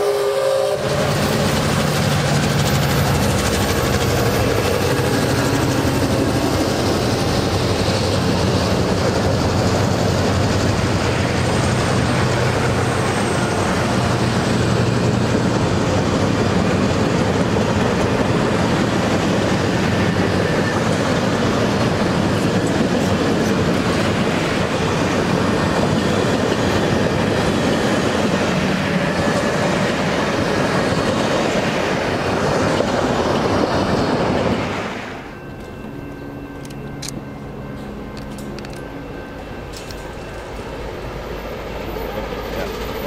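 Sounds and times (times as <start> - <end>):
train wheels rolling on track: 0.0 - 43.0.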